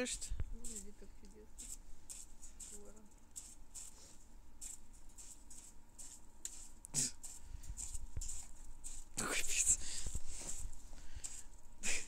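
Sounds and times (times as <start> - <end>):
bird beak scraping crusty snow: 0.6 - 1.0, 1.6 - 11.5.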